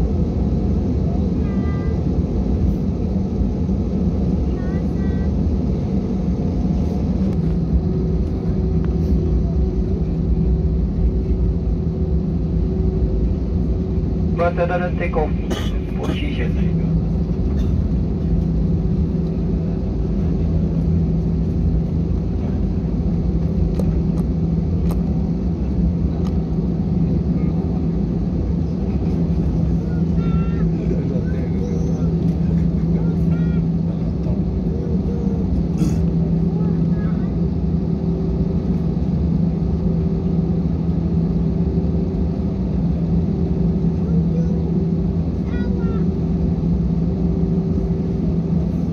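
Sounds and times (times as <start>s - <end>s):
constant hum: 0.0s - 48.9s
rumble of engines and wheels: 0.0s - 48.9s.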